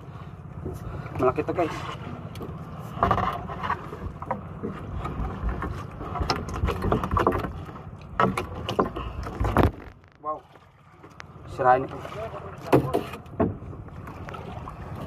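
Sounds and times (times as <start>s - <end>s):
wind and water rumble: 0.0s - 15.0s
knocks and thuds against boat: 0.6s - 10.0s, 12.0s - 15.0s.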